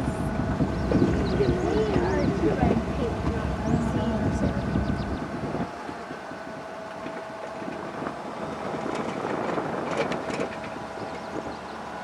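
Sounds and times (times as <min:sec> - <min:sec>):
vehicle running noise: 0:00.0 - 0:12.0.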